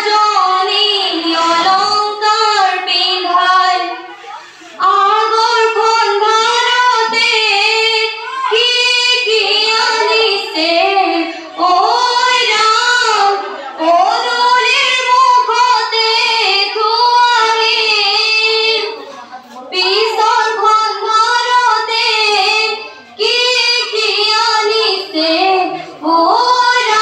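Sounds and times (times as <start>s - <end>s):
girls singing together: 0.0s - 27.0s.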